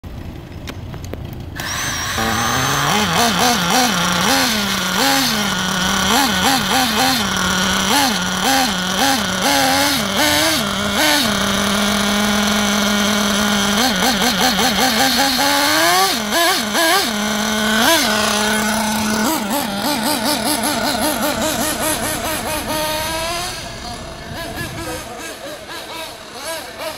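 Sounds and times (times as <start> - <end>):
small nitro engine revving: 1.5 - 26.9.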